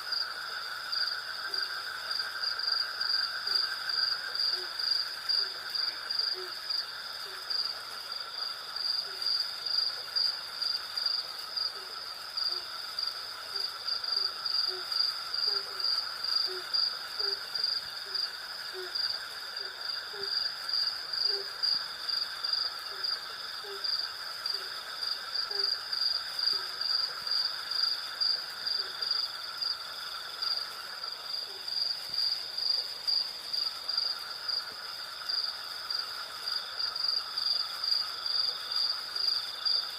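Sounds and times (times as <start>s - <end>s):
crickets chirping: 0.0s - 39.9s
insect drone: 0.0s - 39.9s.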